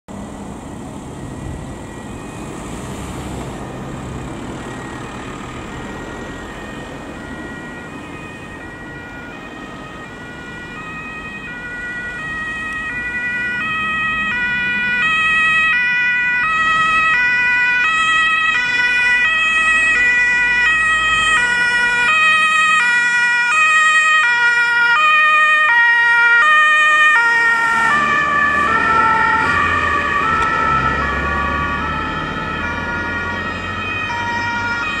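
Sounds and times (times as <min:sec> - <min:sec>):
passing road traffic: 0:00.1 - 0:35.0
two-tone emergency sirens: 0:00.2 - 0:35.0.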